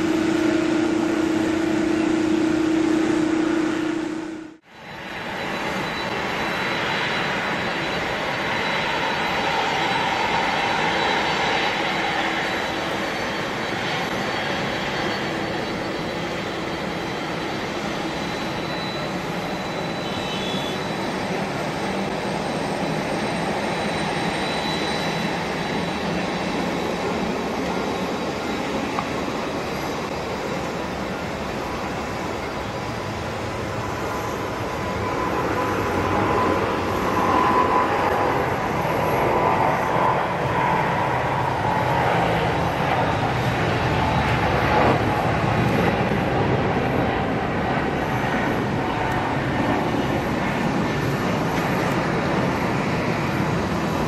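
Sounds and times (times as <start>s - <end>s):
jet engine noise: 0.0s - 54.0s
jet engine whine: 0.0s - 54.0s.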